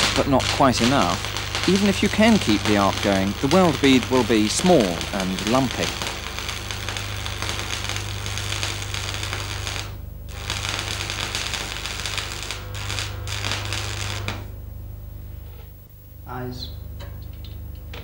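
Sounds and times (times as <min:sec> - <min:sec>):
welding arc crackling: 0:00.0 - 0:16.3, 0:17.0 - 0:18.0
steady low hum: 0:00.0 - 0:18.0.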